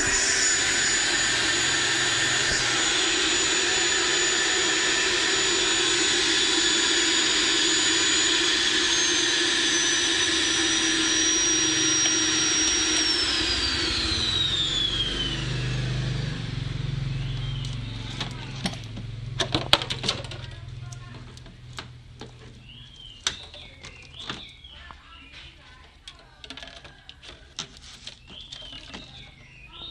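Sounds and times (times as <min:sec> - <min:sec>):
motor high whine: 0:00.0 - 0:29.9.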